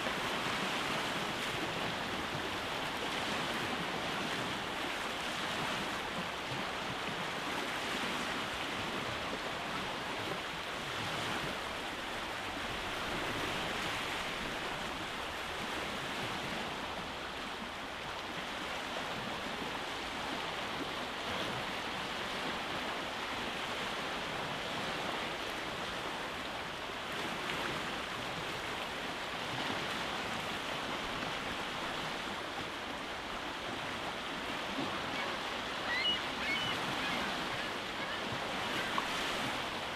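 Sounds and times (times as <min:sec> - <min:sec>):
waves breaking on rocky shore: 0:00.0 - 0:39.9.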